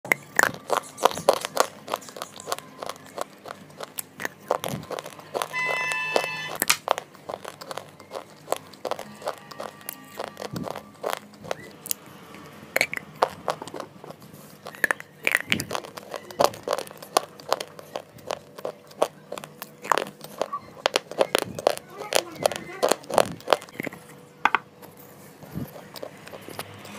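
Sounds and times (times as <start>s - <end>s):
crunching bites: 0.1s - 24.0s
chewing: 0.1s - 24.2s, 24.8s - 26.9s.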